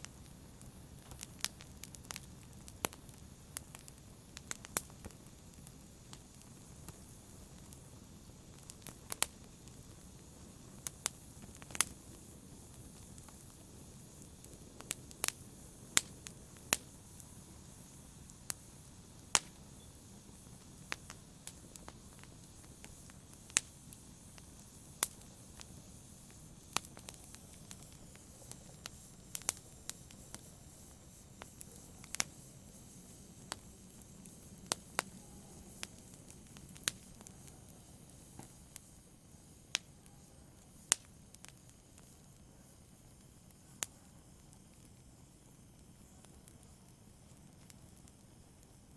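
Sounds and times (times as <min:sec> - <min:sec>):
fireplace fire crackling: 0:00.0 - 0:48.9.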